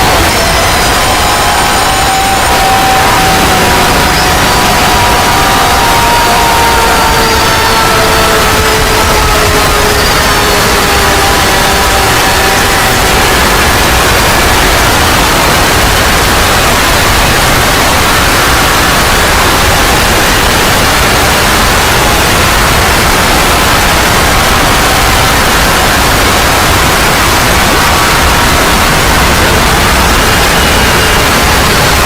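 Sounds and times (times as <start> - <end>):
loud static hiss: 0.0 - 32.0.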